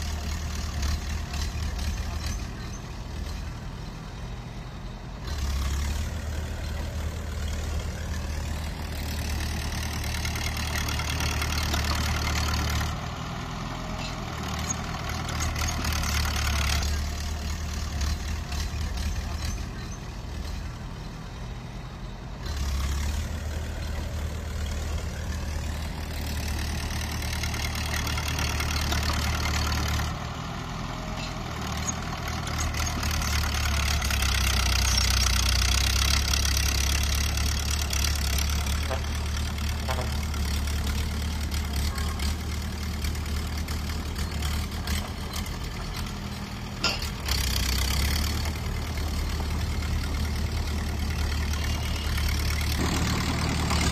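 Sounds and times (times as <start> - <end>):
bulldozer diesel engine working: 0.0 - 53.9.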